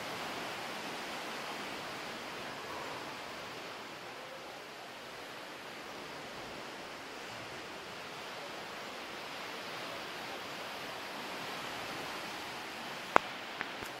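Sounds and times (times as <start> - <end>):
sea surging in a cave: 0.0 - 14.0.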